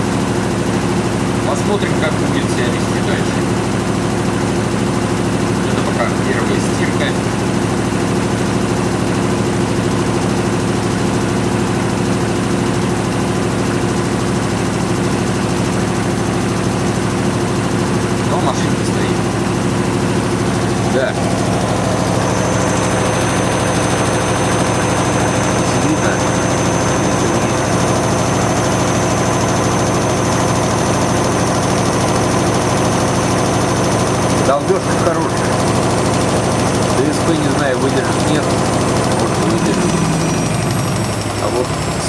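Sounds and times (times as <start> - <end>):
washing machine spinning: 0.0 - 42.0.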